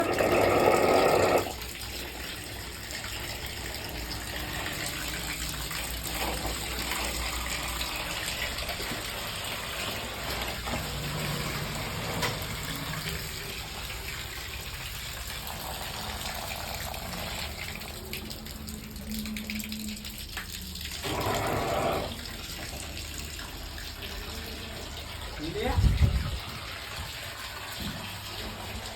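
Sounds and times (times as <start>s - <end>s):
tap water running: 0.0s - 28.9s.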